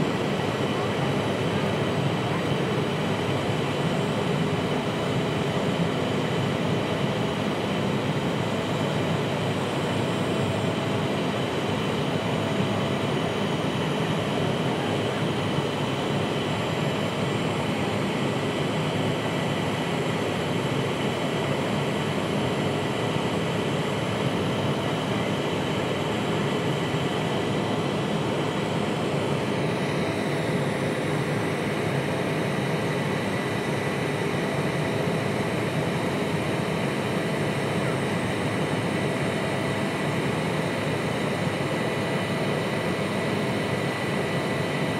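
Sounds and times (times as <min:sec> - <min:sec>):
jet engine and airflow rush: 0:00.0 - 0:44.9.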